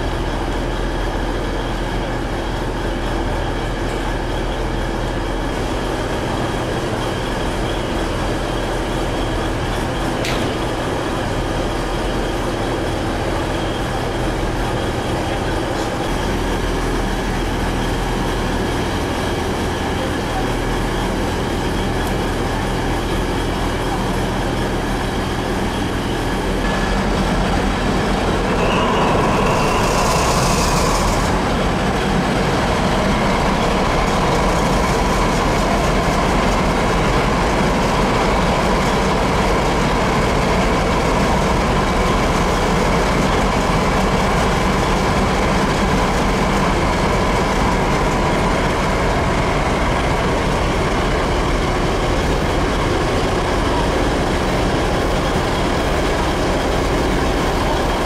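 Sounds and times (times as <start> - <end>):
steady whine: 0.0 - 58.0
train engine hum: 0.0 - 58.0.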